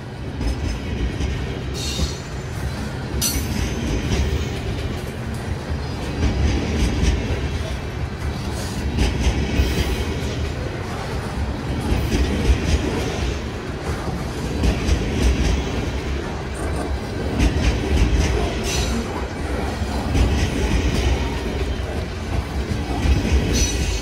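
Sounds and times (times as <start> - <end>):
train wheels rumbling on rails: 0.0 - 24.0
wheels clacking over rail joints: 0.4 - 24.0.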